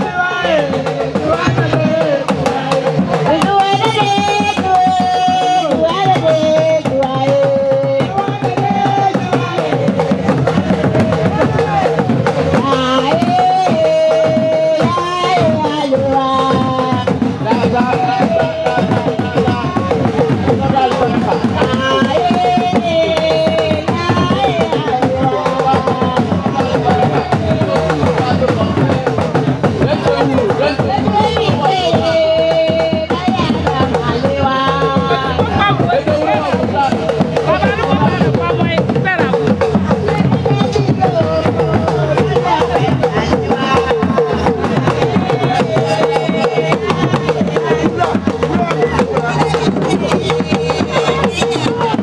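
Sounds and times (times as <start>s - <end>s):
hand drums beaten quickly: 0.0s - 52.0s.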